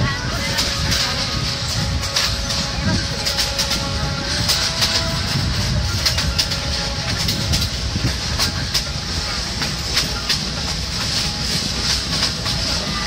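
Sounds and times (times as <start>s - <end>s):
toy train wheel rumble: 0.0s - 13.0s
wheels clicking over rail joints: 0.0s - 13.0s.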